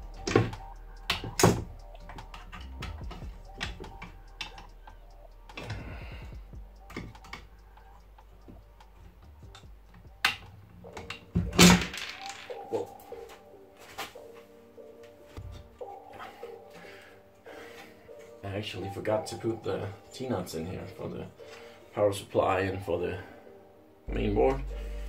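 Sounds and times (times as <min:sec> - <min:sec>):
faint background music: 0:00.0 - 0:25.0.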